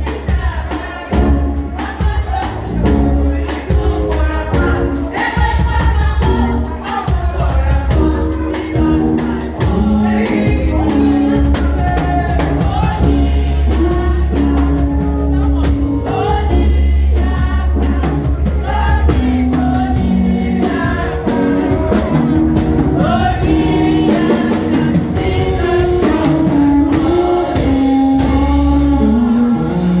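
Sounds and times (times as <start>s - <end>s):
women singing together: 0.0s - 29.6s
live band with drums and bass: 0.0s - 30.0s.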